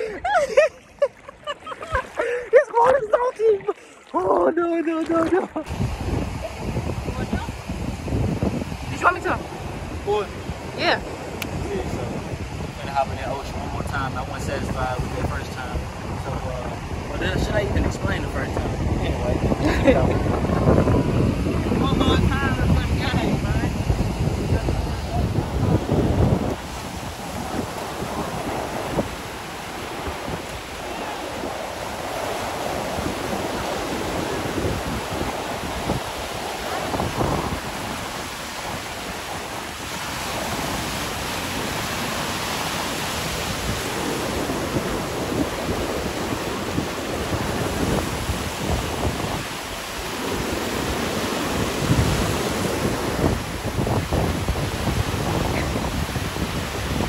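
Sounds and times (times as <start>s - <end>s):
wind buffeting microphone: 1.5s - 57.0s
ocean surf washing in: 5.5s - 57.0s.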